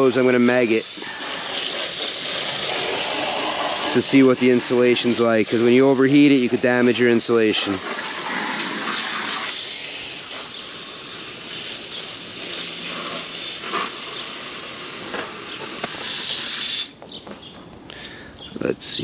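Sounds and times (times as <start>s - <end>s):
hose spray hissing on hot metal: 0.0s - 17.0s.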